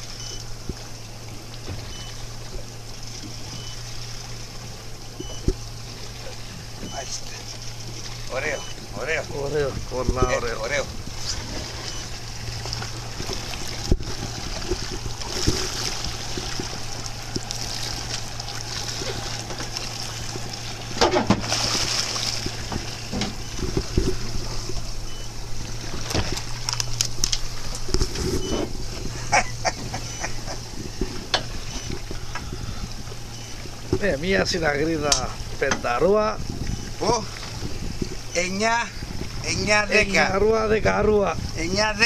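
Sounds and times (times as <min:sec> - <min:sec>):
fish splashing and thrashing: 0:00.0 - 0:40.2
steady low hum: 0:00.0 - 0:42.0
water sloshing against hull: 0:00.0 - 0:42.0.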